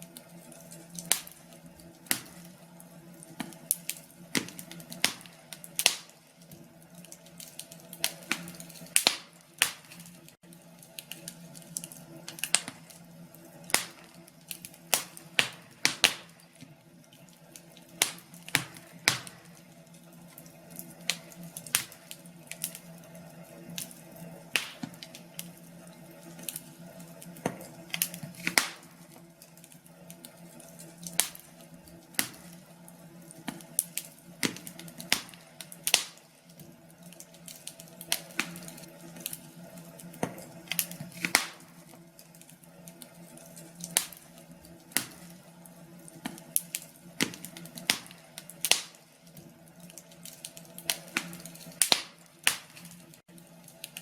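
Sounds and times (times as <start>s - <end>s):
fire popping and snapping: 0.0s - 54.0s.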